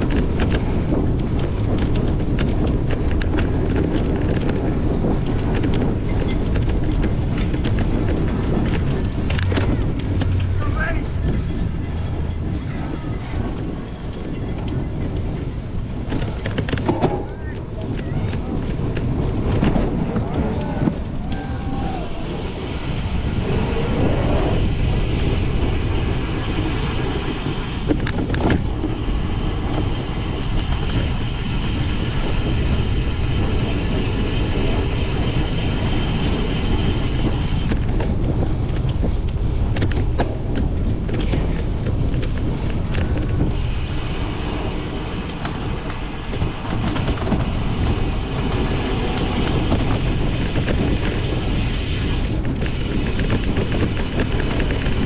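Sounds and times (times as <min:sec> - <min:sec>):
bike rattling: 0:00.0 - 0:55.0
tyres rumbling on rough ground: 0:00.0 - 0:55.0
wind on microphone: 0:00.0 - 0:55.0.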